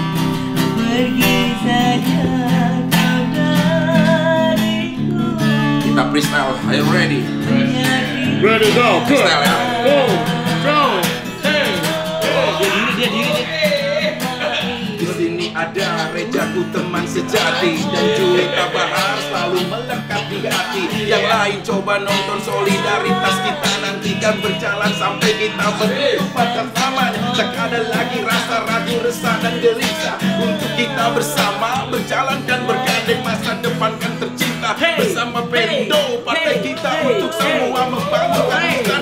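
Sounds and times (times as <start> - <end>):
acoustic guitar playing: 0.0 - 39.0
woman and man singing: 0.0 - 39.0.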